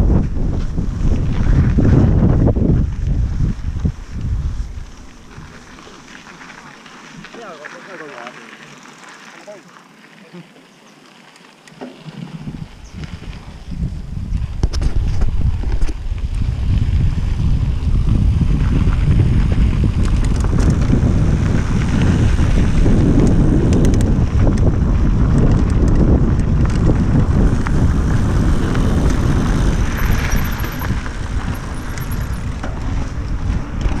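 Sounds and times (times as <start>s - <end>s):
wind rumbling on microphone: 0.0s - 7.4s, 11.9s - 34.0s
bike tyres on gravel: 0.0s - 34.0s
bike clicks and rattles: 0.2s - 34.0s.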